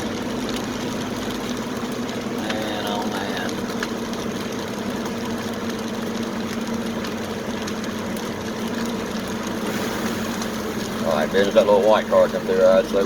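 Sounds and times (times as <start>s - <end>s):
car engine hum inside cabin: 0.0s - 13.0s.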